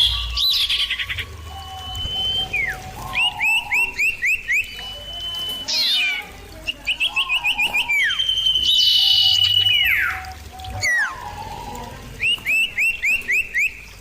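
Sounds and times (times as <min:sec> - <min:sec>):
bird whistles: 0:00.0 - 0:13.8
bird chirps: 0:00.0 - 0:14.0.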